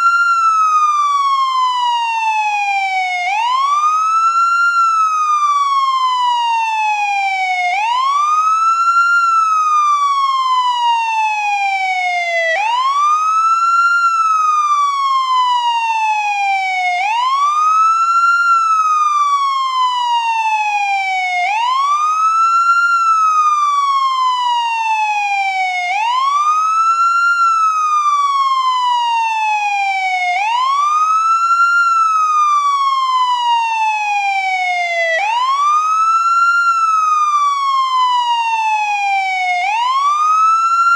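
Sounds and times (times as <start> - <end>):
ambulance wail siren: 0.0 - 40.9.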